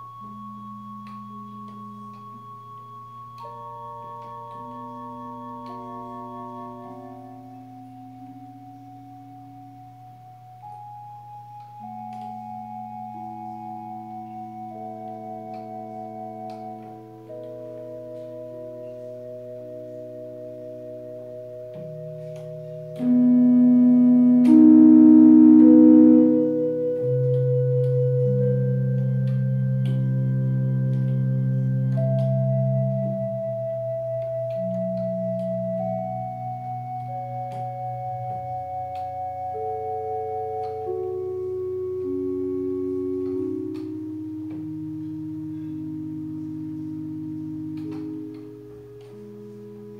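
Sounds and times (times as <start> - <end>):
electronic keyboard piece: 0.0 - 49.9.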